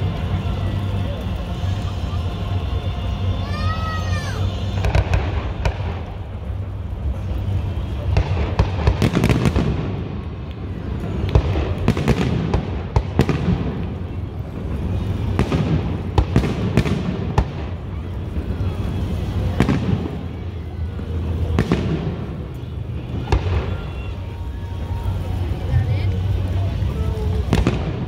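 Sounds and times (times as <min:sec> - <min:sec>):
firework crackle: 0:00.0 - 0:28.0.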